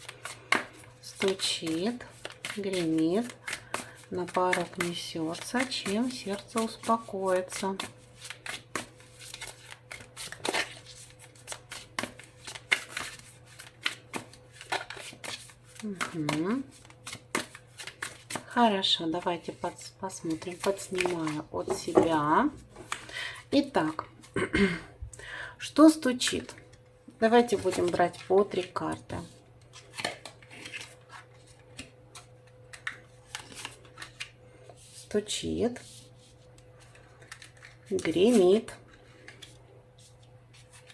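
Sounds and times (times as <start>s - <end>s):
cards being shuffled by hand: 0.0s - 23.1s, 27.4s - 40.9s.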